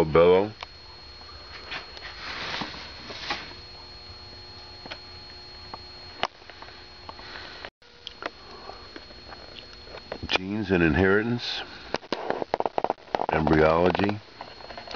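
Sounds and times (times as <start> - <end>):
steady high-pitched whine: 0.0 - 14.9.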